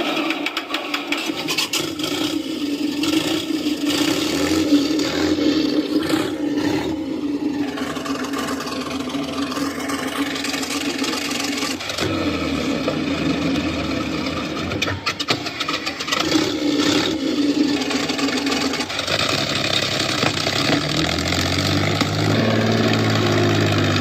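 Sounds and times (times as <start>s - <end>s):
simulated tank engine through speaker: 0.0s - 24.0s.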